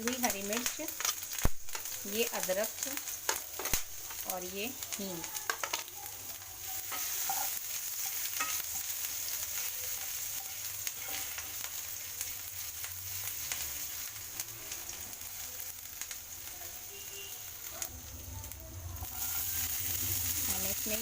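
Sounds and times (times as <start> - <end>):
oil sizzling in a pan: 0.0 - 21.0.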